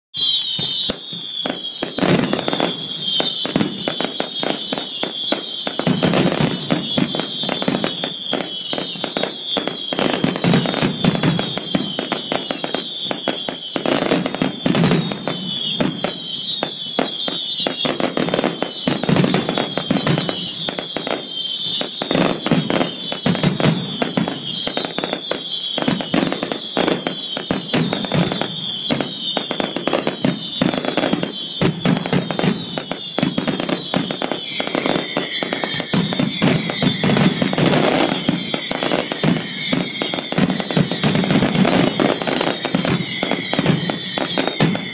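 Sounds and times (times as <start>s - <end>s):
fireworks bangs and crackling: 0.2s - 44.9s.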